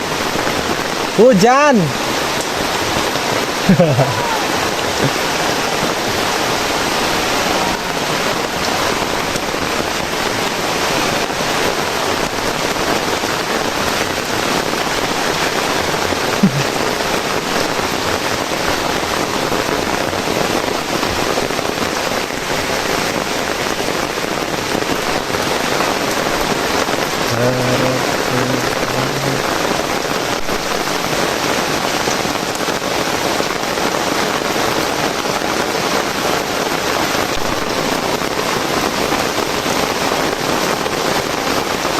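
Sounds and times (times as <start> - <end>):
heavy rain splattering: 0.0 - 41.9.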